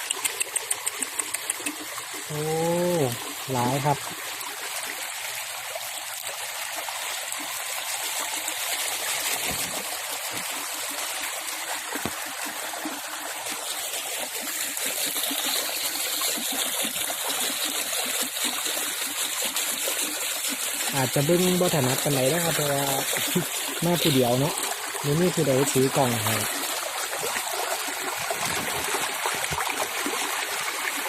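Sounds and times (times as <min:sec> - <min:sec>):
floodwater rushing: 0:00.6 - 0:31.0.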